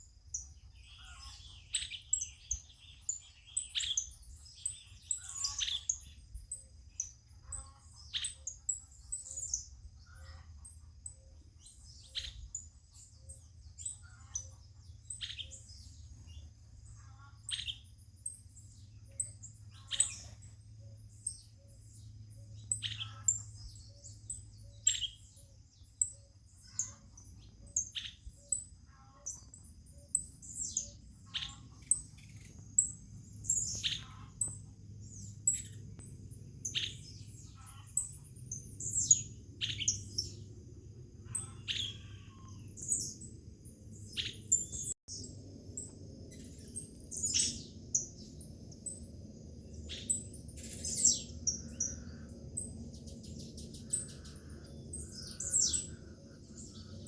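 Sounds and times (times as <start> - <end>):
birds chirping: 0.0 - 57.0
steady high-pitched hum: 4.0 - 57.0.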